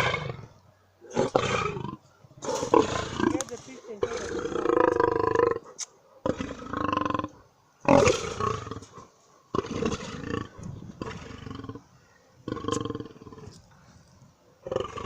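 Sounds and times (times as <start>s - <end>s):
lion roaring: 0.0s - 5.6s, 6.2s - 13.7s, 14.6s - 15.0s.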